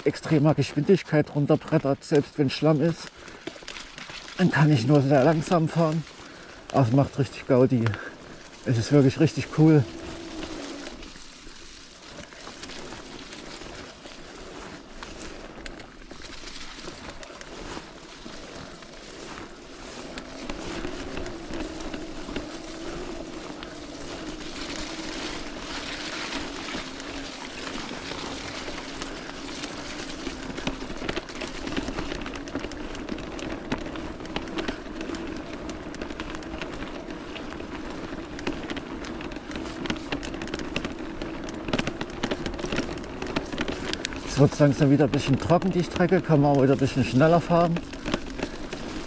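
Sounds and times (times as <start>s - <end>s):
bike knocks and rattles: 2.4s - 49.0s
electric bike motor whining: 3.2s - 49.0s.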